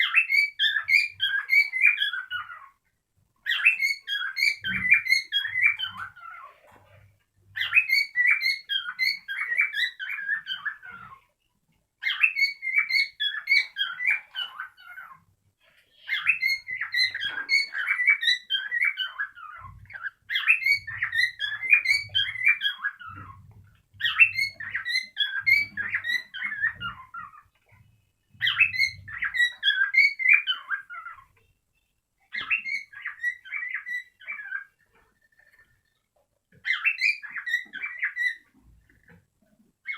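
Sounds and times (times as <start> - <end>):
cockatiel chirping and whistling: 0.0 - 2.7, 3.4 - 6.5, 7.5 - 11.2, 12.0 - 15.2, 16.0 - 27.4, 28.3 - 31.3, 32.3 - 35.7, 36.6 - 38.6.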